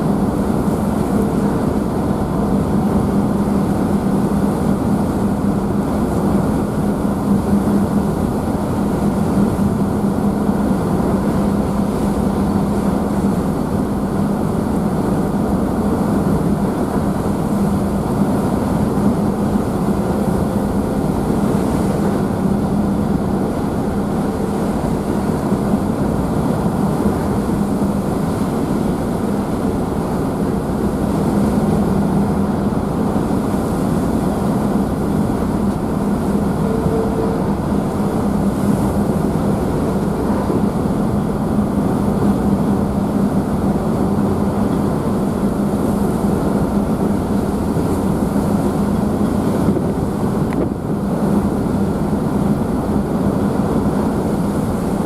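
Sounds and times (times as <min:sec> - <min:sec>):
rushing water of wake: 0:00.0 - 0:55.0
ship engines droning: 0:00.0 - 0:55.0.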